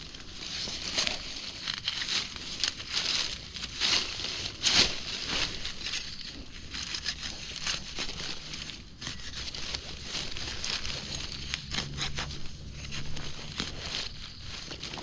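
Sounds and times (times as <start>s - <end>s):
dry leaves and twigs crackling: 0.0s - 15.0s.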